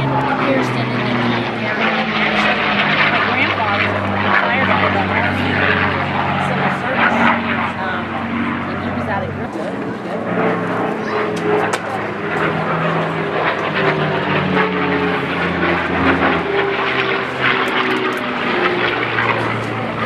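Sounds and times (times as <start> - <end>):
airplane engine drone: 0.0 - 20.0.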